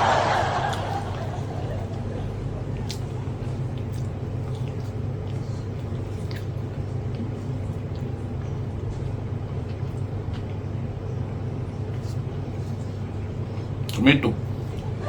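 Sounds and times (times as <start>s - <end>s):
eating clicks and smacks: 0.0s - 15.0s
steady low hum: 0.0s - 15.0s.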